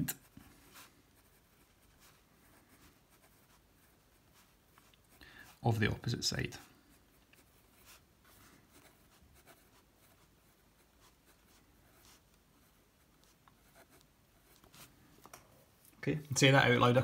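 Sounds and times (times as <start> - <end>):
pen scratching on paper: 0.1 - 5.6, 6.8 - 15.0.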